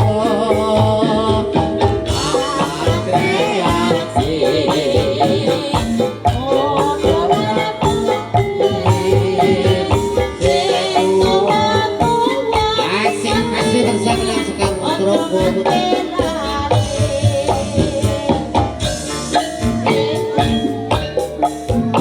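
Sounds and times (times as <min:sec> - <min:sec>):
drums beating: 0:00.0 - 0:22.0
melodic lines: 0:00.0 - 0:22.0
shaken percussion: 0:00.0 - 0:22.0.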